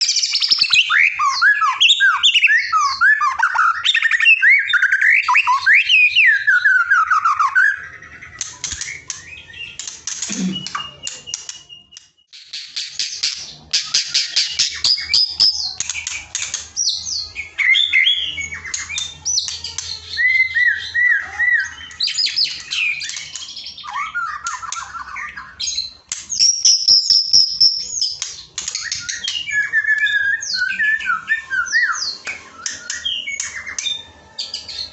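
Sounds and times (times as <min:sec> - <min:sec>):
songbird whistling and trilling: 0:00.0 - 0:34.9.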